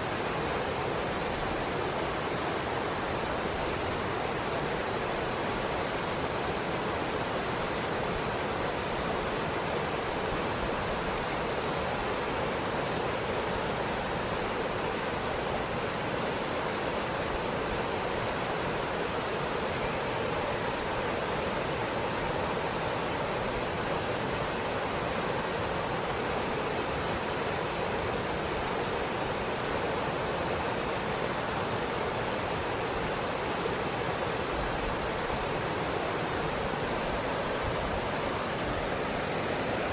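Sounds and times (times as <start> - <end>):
background hiss: 0.0 - 39.9
insects shrilling: 5.9 - 39.9.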